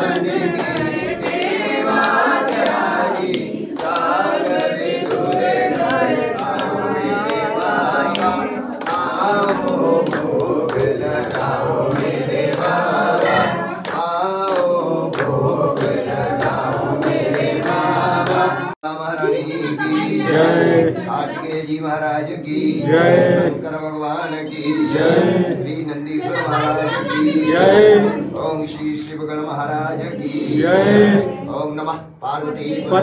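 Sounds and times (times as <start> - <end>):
voices singing a devotional chant: 0.0 - 33.0.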